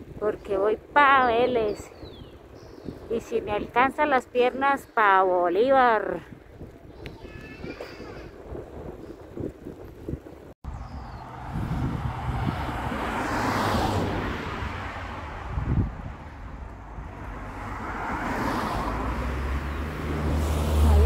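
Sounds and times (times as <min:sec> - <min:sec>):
vehicles passing: 0:00.0 - 0:07.7, 0:10.6 - 0:21.0.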